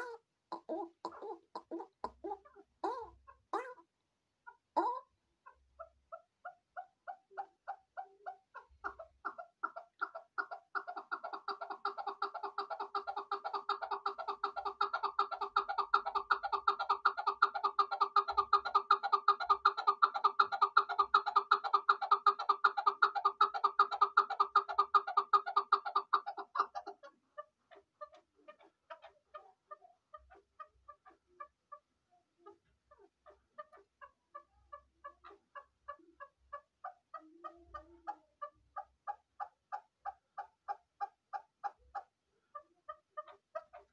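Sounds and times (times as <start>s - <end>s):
partridge chuck calls: 0.0s - 43.9s.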